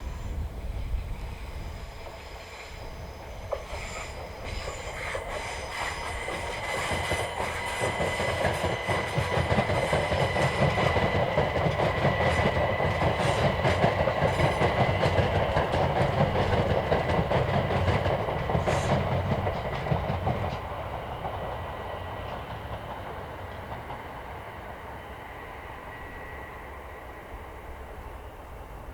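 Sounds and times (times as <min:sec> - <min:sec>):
train wheels clattering on rails: 0:00.8 - 0:26.6.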